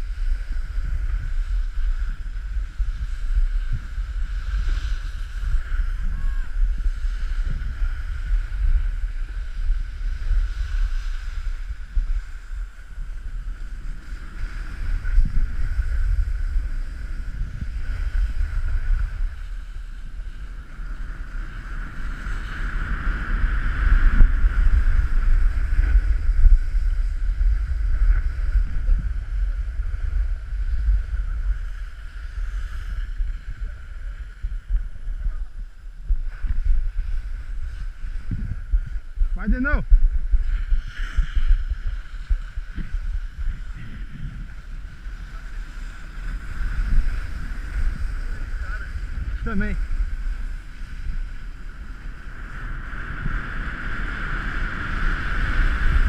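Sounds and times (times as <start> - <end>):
snowboard scraping on snow: 0.0 - 56.0
wind rumbling on microphone: 0.0 - 56.0.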